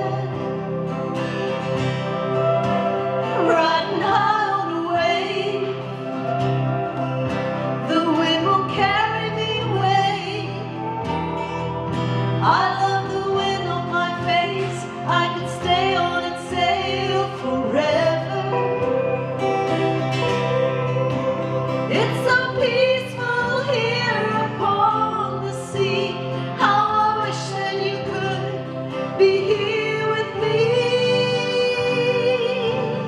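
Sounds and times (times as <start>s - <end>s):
woman singing: 0.0s - 0.8s, 3.2s - 6.6s, 7.7s - 11.6s, 12.3s - 20.3s, 21.8s - 33.0s
acoustic guitar: 0.0s - 33.0s.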